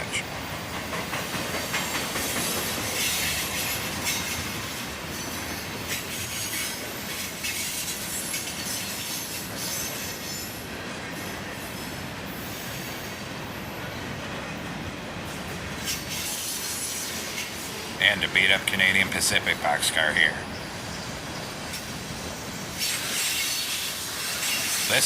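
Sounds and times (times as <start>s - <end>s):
train clickety-clack rumble: 0.0s - 25.0s
train wheels squealing: 0.8s - 18.0s, 19.7s - 25.0s.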